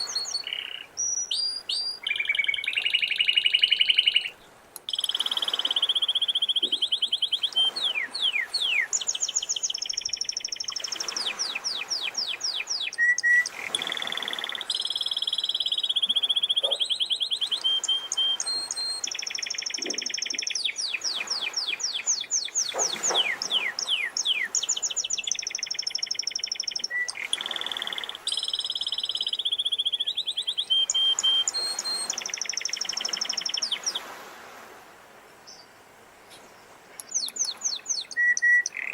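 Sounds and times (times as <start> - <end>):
canary singing trills: 0.0 - 34.0, 37.0 - 38.9.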